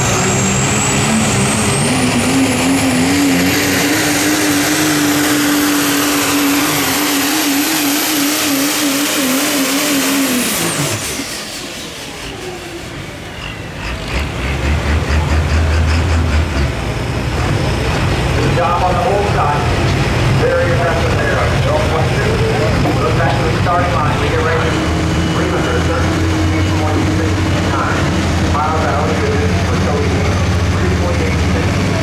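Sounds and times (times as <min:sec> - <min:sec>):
diesel engine drone: 0:00.0 - 0:32.0.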